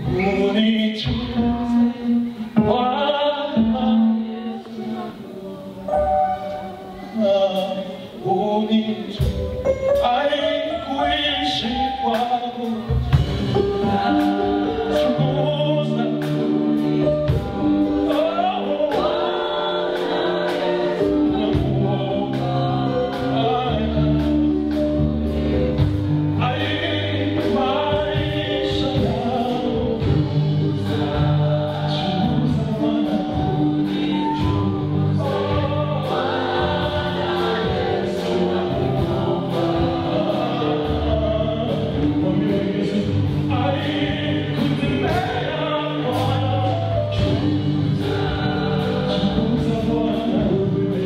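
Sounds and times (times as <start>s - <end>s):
voices singing together: 0.0s - 51.0s
instrumental backing with beat: 5.7s - 8.4s, 9.0s - 51.0s.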